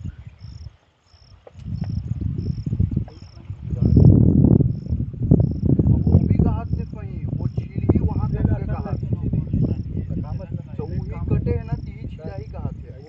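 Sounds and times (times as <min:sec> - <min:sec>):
crickets chirping: 0:00.0 - 0:13.0
low rumble: 0:01.6 - 0:13.0.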